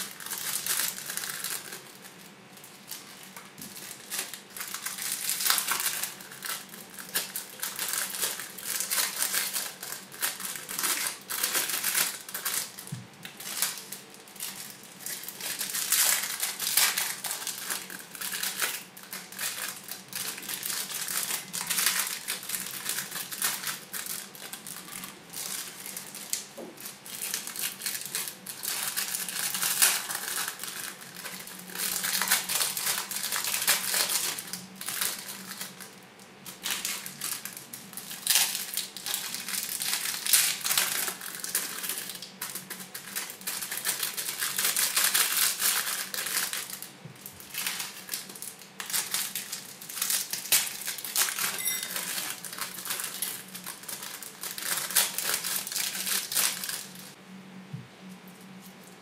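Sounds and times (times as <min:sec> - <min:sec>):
plastic sachets crinkling: 0:00.0 - 0:57.2.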